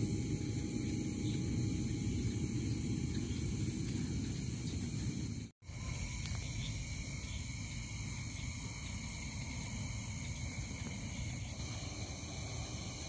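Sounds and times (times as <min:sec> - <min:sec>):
continuous low rumble: 0:00.0 - 0:13.0
crickets and insects trilling: 0:00.0 - 0:13.0.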